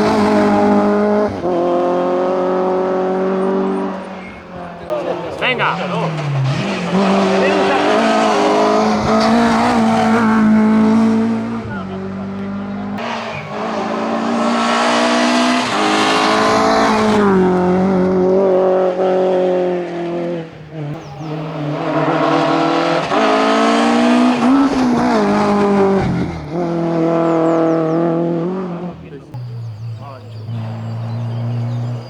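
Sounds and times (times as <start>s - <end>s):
racing car engine at high revs: 0.0s - 32.0s.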